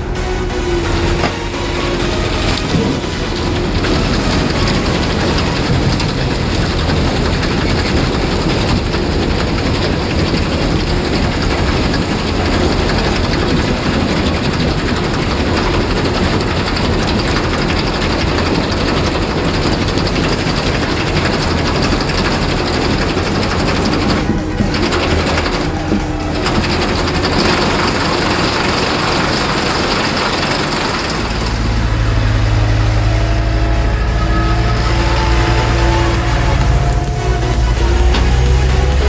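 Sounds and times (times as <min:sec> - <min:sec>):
low engine drone: 0:00.0 - 0:39.0
machinery rattling: 0:00.0 - 0:39.0.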